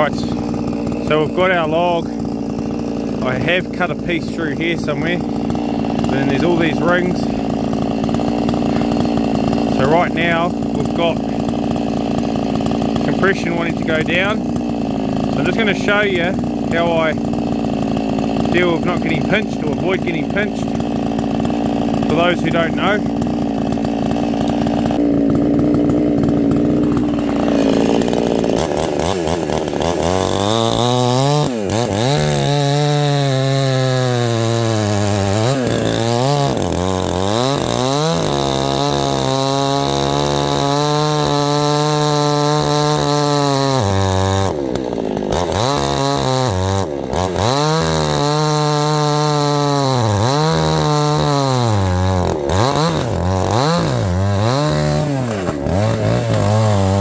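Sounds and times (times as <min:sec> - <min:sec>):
chainsaw cutting log revving: 0:00.0 - 0:57.0.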